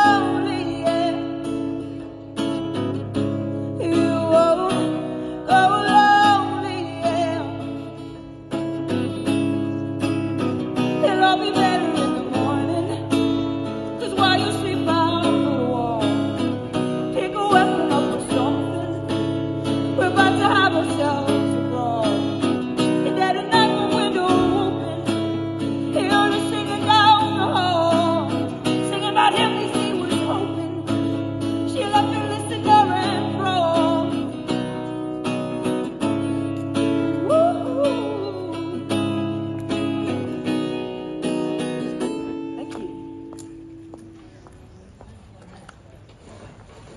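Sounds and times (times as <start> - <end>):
acoustic guitar strumming: 0.0 - 44.1.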